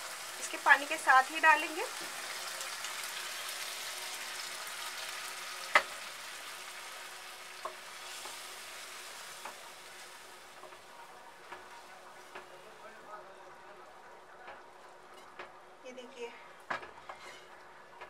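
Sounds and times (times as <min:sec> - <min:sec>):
masala sizzling in a pan: 0:00.0 - 0:18.0.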